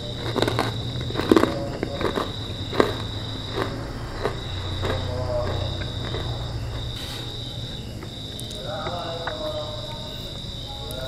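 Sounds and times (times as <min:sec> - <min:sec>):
cricket chirring: 0:00.0 - 0:11.0
crunchy cracker chewing: 0:00.0 - 0:11.0.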